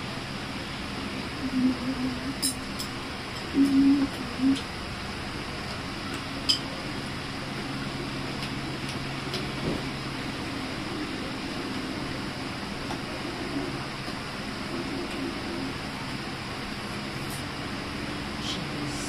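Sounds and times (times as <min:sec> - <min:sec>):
electric fan whirring: 0:00.0 - 0:19.0
low hum: 0:00.0 - 0:19.0.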